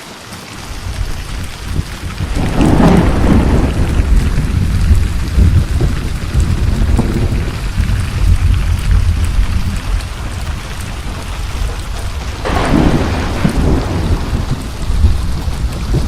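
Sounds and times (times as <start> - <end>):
steady rain: 0.0 - 16.0
deep thunder rumbling: 0.6 - 16.0
thunder crack: 0.7 - 16.0.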